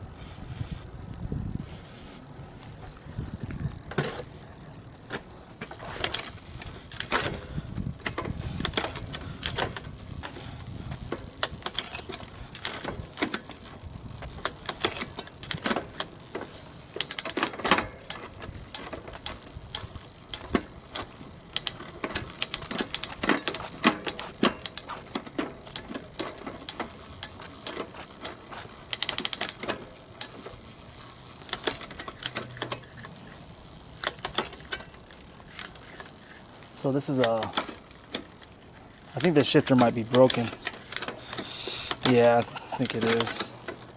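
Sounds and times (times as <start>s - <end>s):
bicycle chain and gears clicking: 0.0s - 43.9s.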